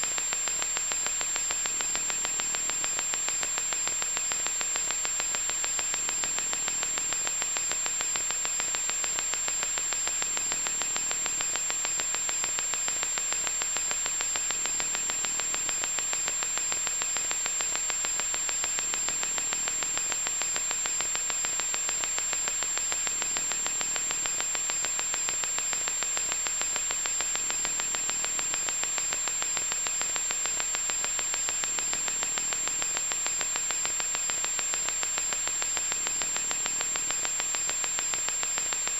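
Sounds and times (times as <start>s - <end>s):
electronic static hiss: 0.0s - 38.9s.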